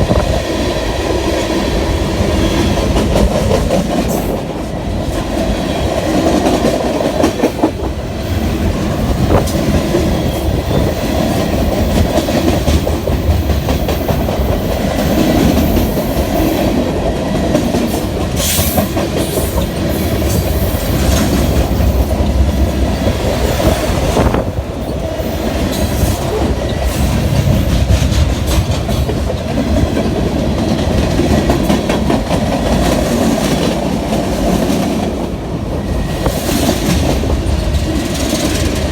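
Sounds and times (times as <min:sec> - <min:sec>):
heavy train rumble: 0:00.0 - 0:38.9
train wheels clacking over rails: 0:00.0 - 0:38.9.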